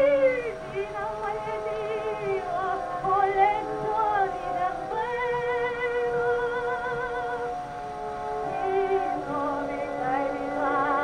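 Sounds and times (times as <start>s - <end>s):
soprano singing opera: 0.0s - 7.6s, 8.5s - 11.0s.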